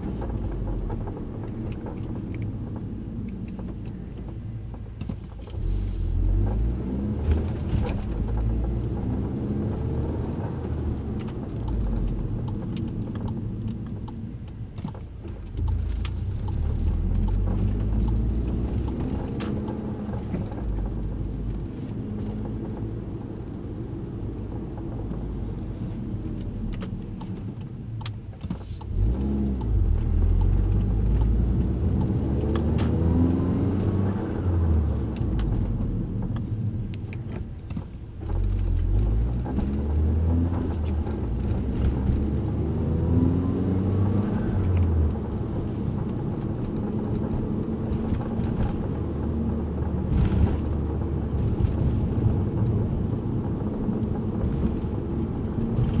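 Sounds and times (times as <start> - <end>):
car engine accelerating: 0.0 - 56.0
road rumble: 0.0 - 56.0.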